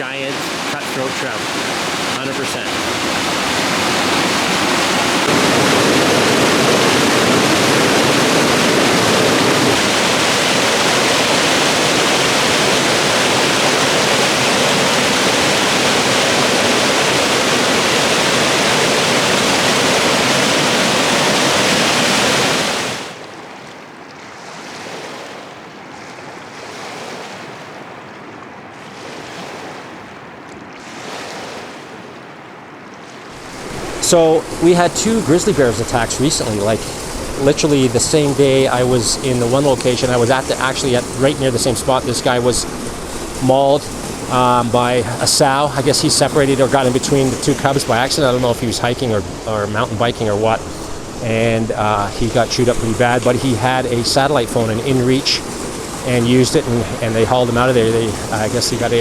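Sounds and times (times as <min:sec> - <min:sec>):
rushing mountain water: 0:00.0 - 0:59.0
wind gusts: 0:00.0 - 0:59.0.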